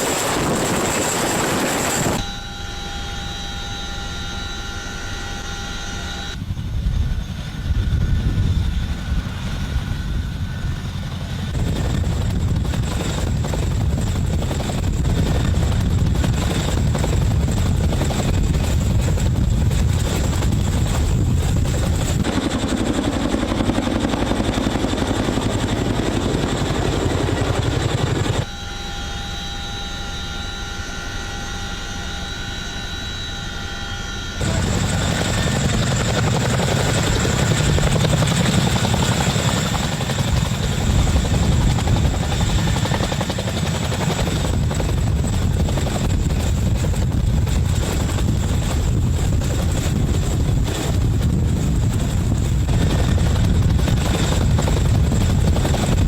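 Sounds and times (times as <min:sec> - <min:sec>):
helicopter running: 0:00.0 - 0:56.0
steady whining tones: 0:00.0 - 0:56.0.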